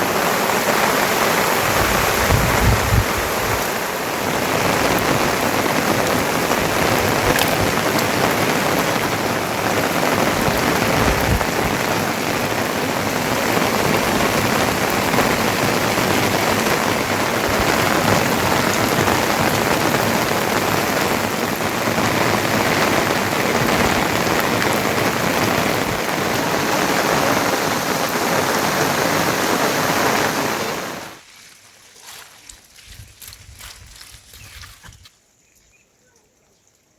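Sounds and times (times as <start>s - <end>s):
heavy rain falling: 0.0s - 31.2s.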